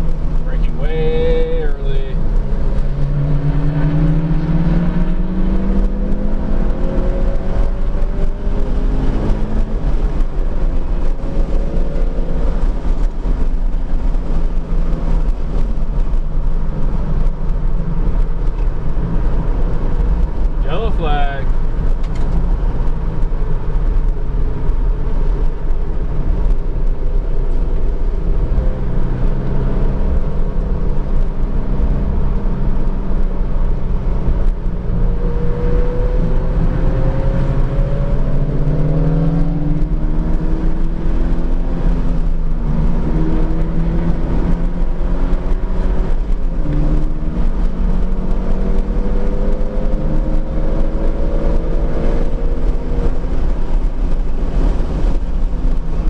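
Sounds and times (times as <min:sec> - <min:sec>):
car engine: 0:00.0 - 0:56.0
road noise inside car cabin: 0:00.0 - 0:56.0.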